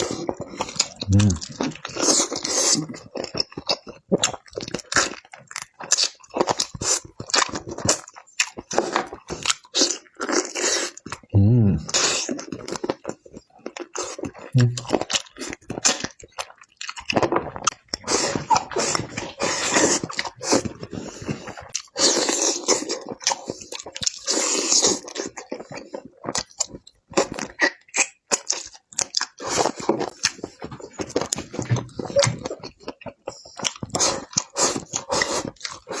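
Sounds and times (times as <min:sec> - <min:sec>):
crunching and chewing fried chicken: 0:00.0 - 0:36.0.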